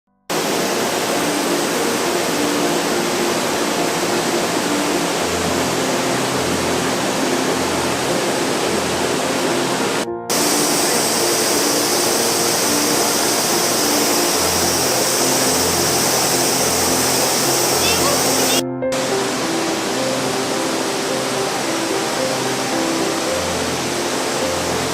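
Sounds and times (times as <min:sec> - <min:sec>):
waterfall rushing: 0:00.3 - 0:24.9.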